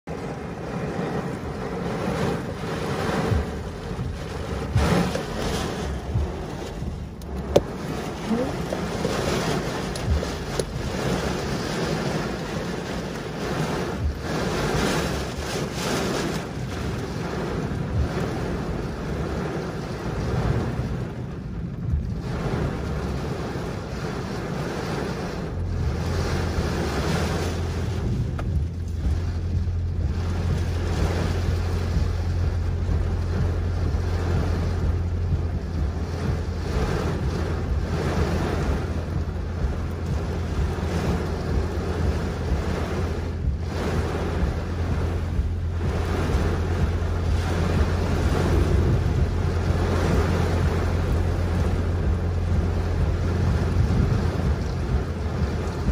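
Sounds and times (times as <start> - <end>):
heavy rain on car roof: 0.0 - 55.9
wind gusts: 0.0 - 55.9
steady low hum: 0.6 - 55.9.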